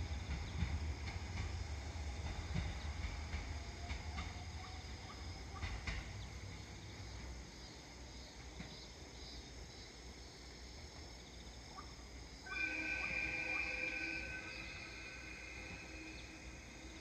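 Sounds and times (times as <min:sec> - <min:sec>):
insects chirping: 0:00.0 - 0:17.0
train rumbling: 0:00.0 - 0:17.0.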